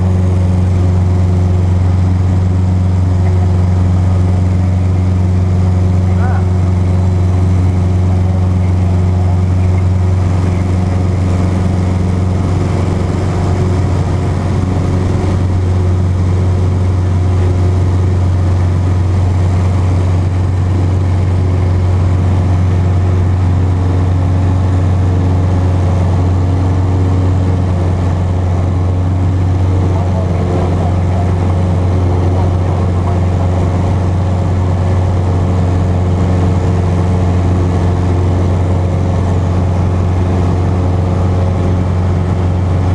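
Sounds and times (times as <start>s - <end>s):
airplane engine drone in cockpit: 0.0s - 42.9s.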